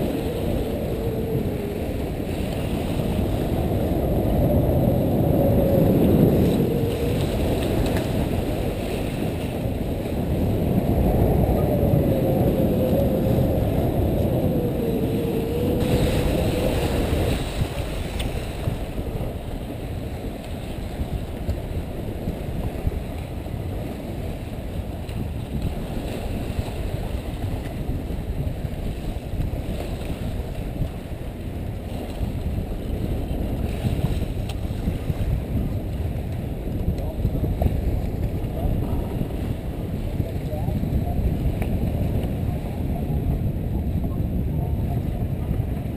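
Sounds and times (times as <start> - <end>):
water rushing past: 0.0 - 43.4
wind buffeting camera: 0.0 - 45.9.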